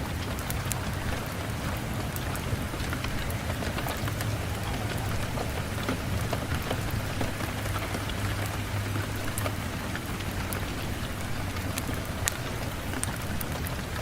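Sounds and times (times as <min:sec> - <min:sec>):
steady rain on a surface: 0:00.0 - 0:14.0
wood fire crackling: 0:00.0 - 0:14.0.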